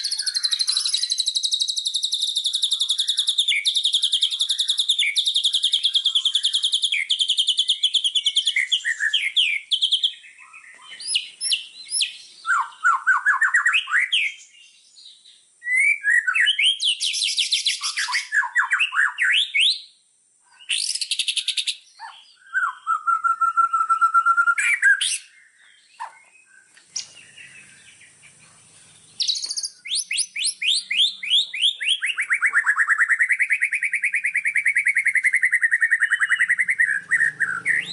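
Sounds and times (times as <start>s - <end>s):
songbirds singing: 0.0s - 37.9s.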